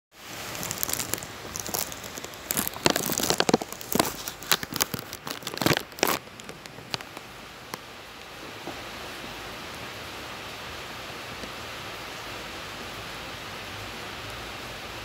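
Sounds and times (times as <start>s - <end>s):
heavy rain hissing: 0.1s - 15.0s.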